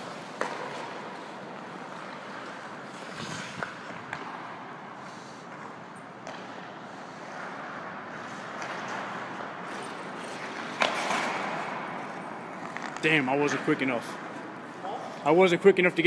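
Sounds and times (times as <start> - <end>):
skates scraping on ice: 0.0 - 14.8.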